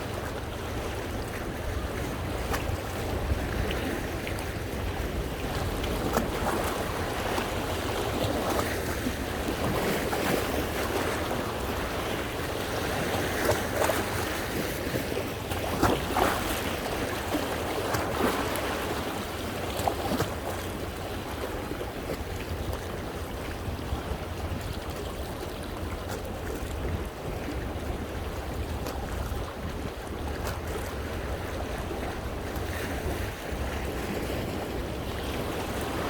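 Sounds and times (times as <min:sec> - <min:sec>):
waves washing against rocks: 0:00.0 - 0:36.0
wind rumble on microphone: 0:00.0 - 0:36.0.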